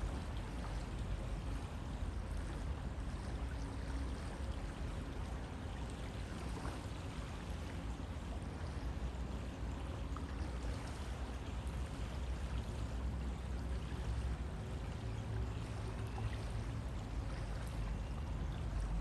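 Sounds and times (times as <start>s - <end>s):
river flowing: 0.0s - 19.0s.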